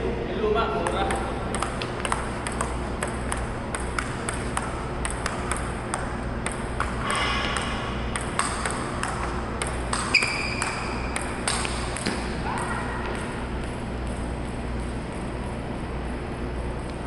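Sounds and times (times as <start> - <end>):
steady low hum: 0.0 - 17.0
ping-pong ball clicking: 0.8 - 15.4.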